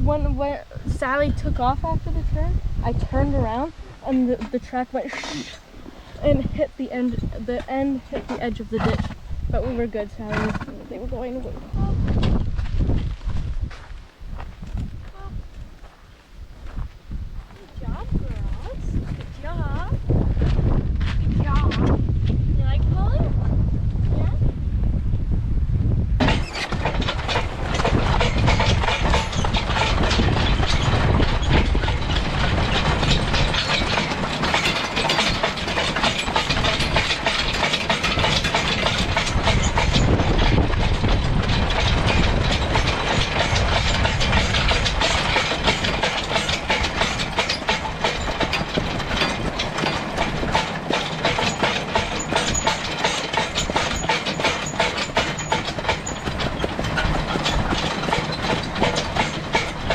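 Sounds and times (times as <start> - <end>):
metal track clattering and scraping: 0.0 - 16.0, 16.7 - 22.0, 26.2 - 59.9.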